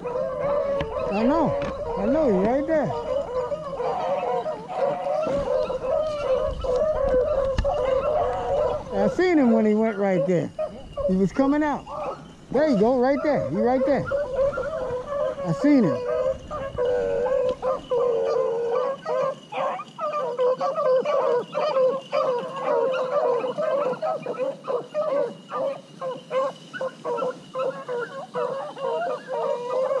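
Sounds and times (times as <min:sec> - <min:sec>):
hounds baying: 0:00.0 - 0:30.0.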